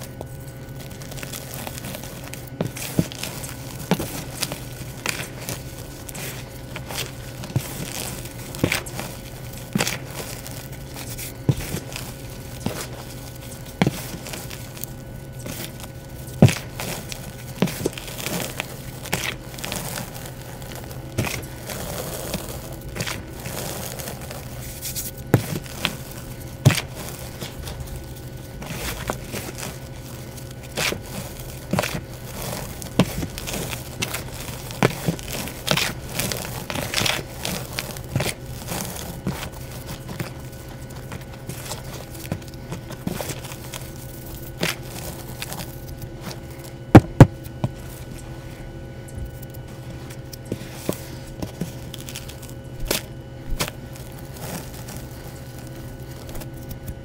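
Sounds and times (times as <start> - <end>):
hands crunching powdery chalk: 0.0 - 57.0.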